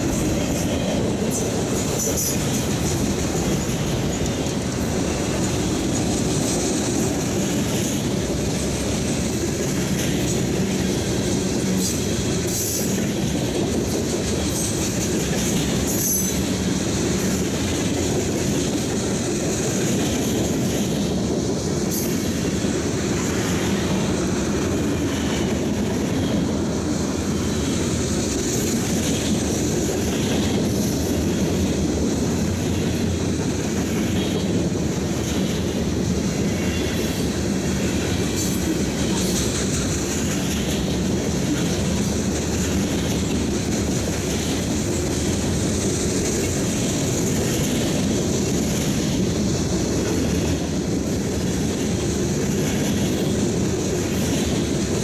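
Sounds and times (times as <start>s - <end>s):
clicking over rail joints: 0.0s - 55.0s
train wheels rumbling on rail: 0.0s - 55.0s.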